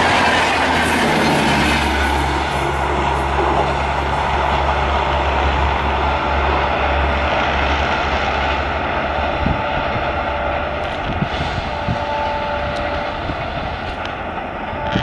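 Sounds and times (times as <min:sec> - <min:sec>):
passenger train passing: 0:00.0 - 0:15.0.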